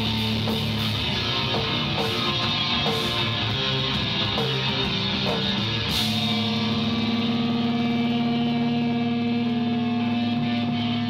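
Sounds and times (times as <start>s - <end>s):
live rock band playing: 0.0s - 11.0s
sustained ringing guitar chord: 0.0s - 11.0s.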